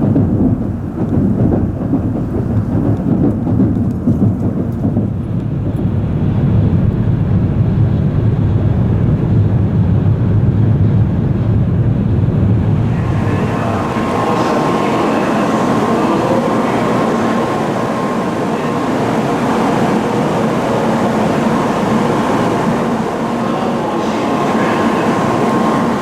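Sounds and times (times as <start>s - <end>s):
faint steady whine: 0.0s - 26.0s
train wheels and air rumbling: 0.0s - 26.0s.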